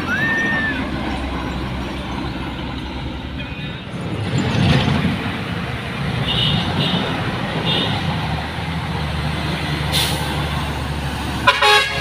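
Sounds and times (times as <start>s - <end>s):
diesel truck engines droning: 0.0s - 12.0s.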